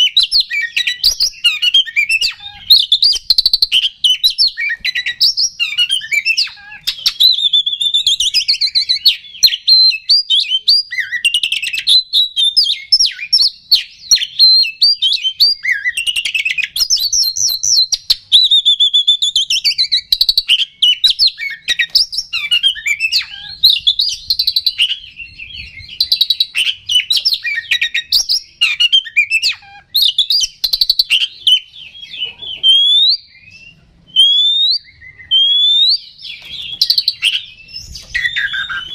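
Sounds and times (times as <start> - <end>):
bird singing varied whistles: 0.0 - 38.9.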